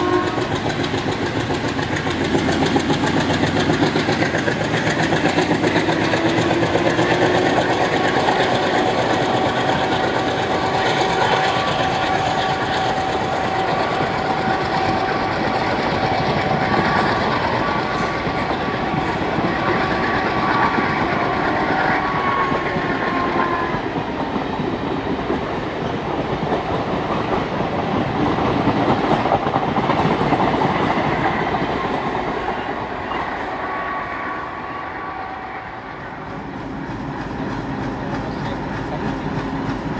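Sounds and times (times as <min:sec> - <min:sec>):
train wheels clattering over rail joints: 0:00.0 - 0:33.5, 0:36.3 - 0:39.9
train whine: 0:00.0 - 0:39.9.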